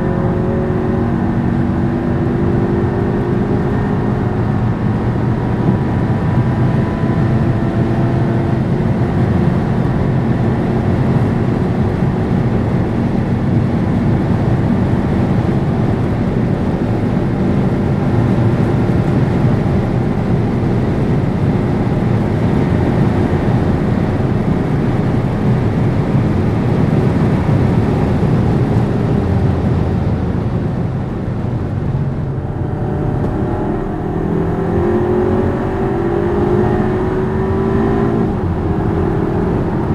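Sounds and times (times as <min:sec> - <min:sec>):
car driving at high speed: 0:00.0 - 0:39.9.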